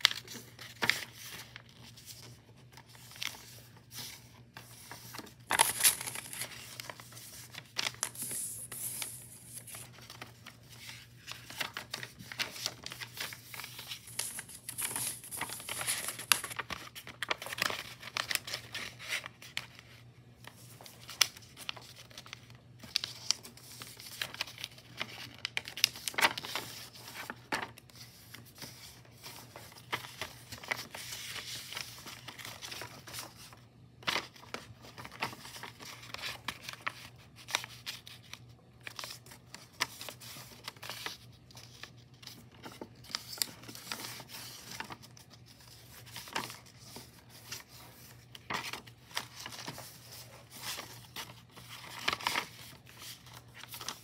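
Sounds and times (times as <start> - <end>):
paper rustling and crinkling: 0.0 - 54.0.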